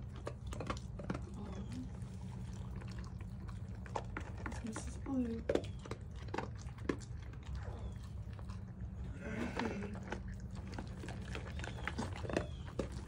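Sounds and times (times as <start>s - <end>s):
dog crunching dry kibble: 0.0s - 13.0s.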